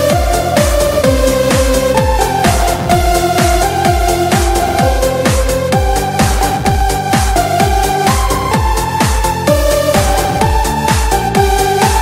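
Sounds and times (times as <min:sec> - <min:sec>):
electronic dance music: 0:00.0 - 0:12.0
held synth melody: 0:00.0 - 0:12.0
kick drum: 0:00.0 - 0:12.0.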